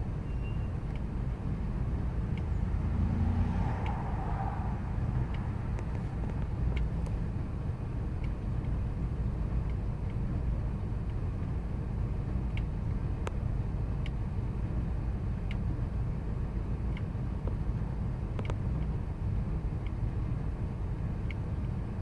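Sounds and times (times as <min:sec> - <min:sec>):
faint irregular engine ticks: 0:00.0 - 0:02.8, 0:03.7 - 0:22.0
engine rough idle rumble: 0:03.6 - 0:22.0.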